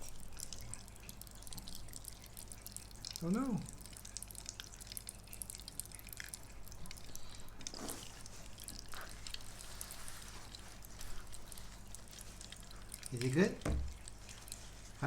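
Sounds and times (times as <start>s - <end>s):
spoon squishing soft jelly: 0.0s - 15.0s.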